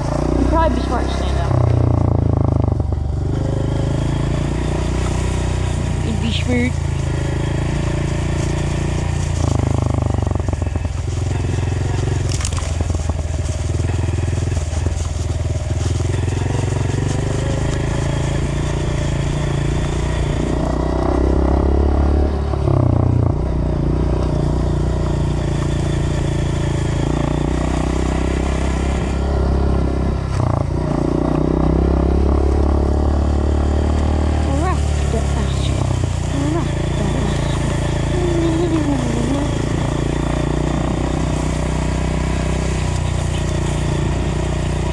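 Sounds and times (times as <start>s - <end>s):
constant rough noise: 0.0s - 44.9s
dirt bike engine revving: 0.0s - 44.9s.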